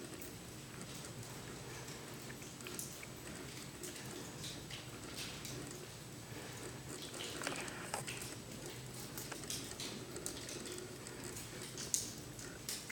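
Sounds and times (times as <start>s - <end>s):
light clicks and crackles: 0.0s - 12.9s
low steady hum: 0.0s - 12.9s.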